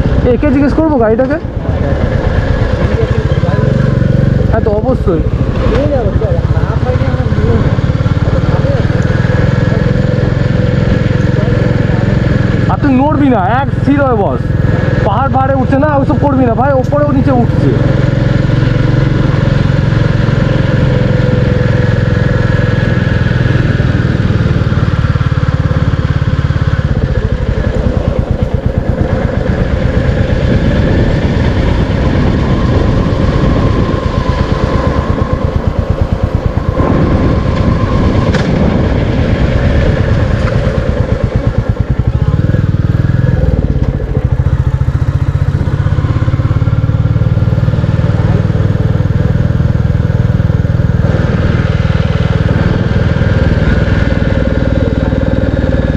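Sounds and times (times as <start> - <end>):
single-cylinder motorcycle engine: 0.0 - 55.9.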